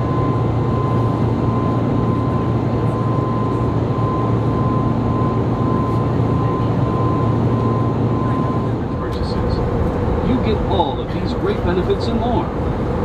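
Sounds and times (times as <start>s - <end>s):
low engine drone: 0.0s - 13.0s
thin steady whine: 0.0s - 13.0s.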